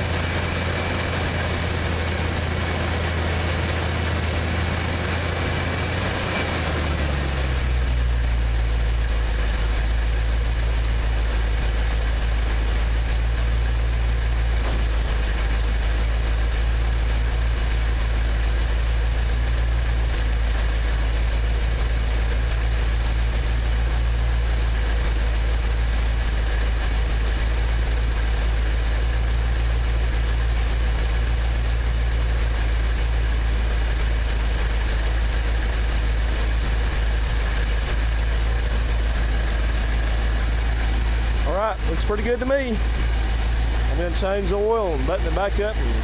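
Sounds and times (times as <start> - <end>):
truck engine idling: 0.0 - 46.0.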